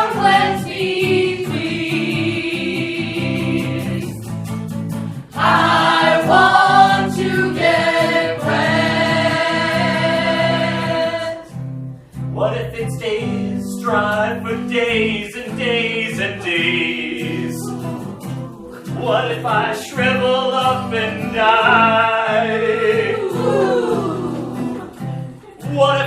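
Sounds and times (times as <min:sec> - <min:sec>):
several voices singing: 0:00.0 - 0:04.3, 0:05.2 - 0:11.6, 0:14.3 - 0:26.0.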